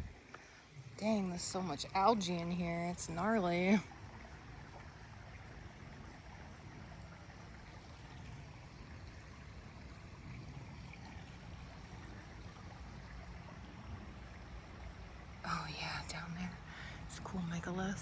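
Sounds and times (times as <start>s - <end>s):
creek water flowing: 0.0s - 18.0s.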